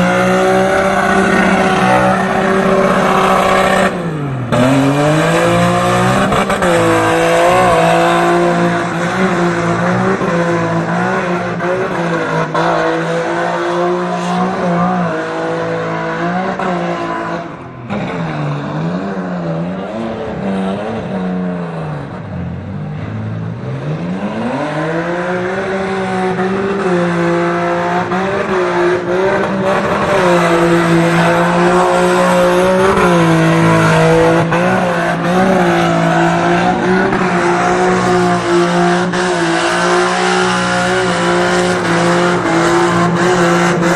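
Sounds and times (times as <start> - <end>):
car engine at high revs: 0.0 - 43.9.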